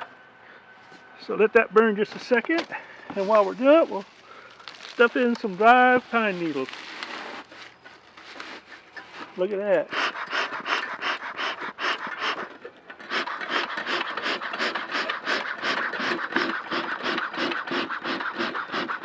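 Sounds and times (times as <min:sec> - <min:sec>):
smoker bellows puffing air: 0:01.9 - 0:19.0.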